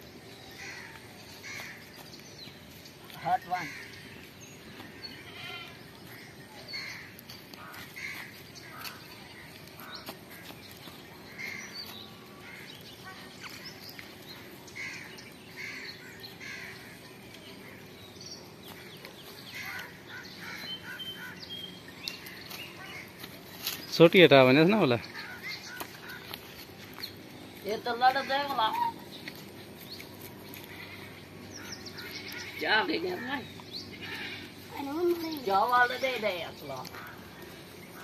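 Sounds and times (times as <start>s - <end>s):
bird calls and chirps: 0.0s - 38.0s
rural outdoor ambience: 0.0s - 38.0s.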